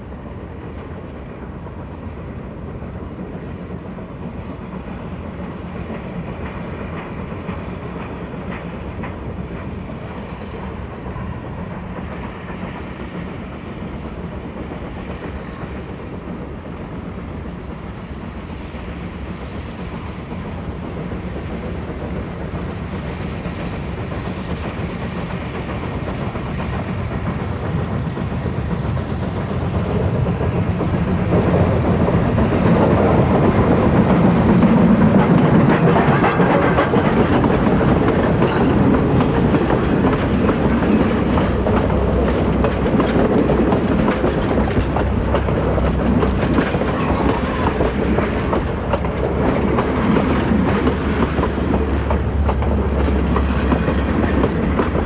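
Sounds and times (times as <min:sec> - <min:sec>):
steam locomotive pulling a train: 0:00.0 - 0:55.0.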